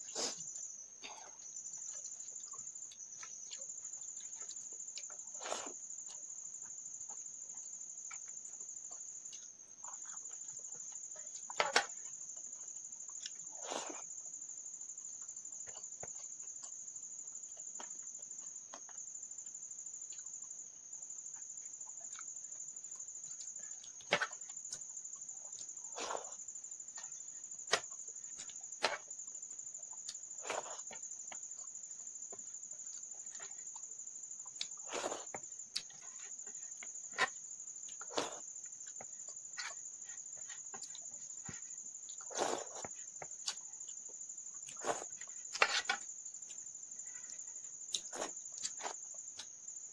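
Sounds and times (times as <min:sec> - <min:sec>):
mouth and chewing sounds: 0:00.1 - 0:14.4, 0:15.0 - 0:49.6.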